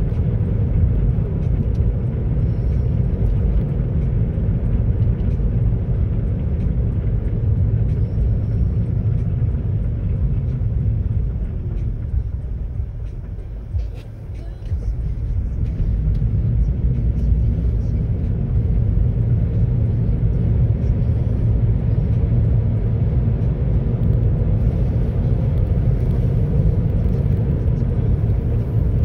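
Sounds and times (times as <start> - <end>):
road and tyre noise inside car: 0.0 - 29.0.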